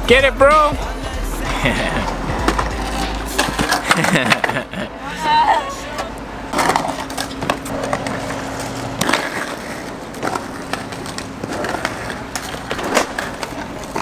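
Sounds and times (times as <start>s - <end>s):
skateboards rolling on concrete: 0.0s - 14.0s
skateboards clacking on ground: 1.5s - 4.7s, 5.3s - 14.0s.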